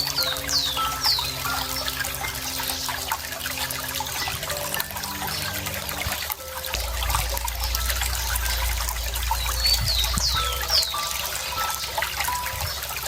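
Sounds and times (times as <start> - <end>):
bird chirps sliding down: 0.0 - 13.0
water trickling: 0.0 - 13.0.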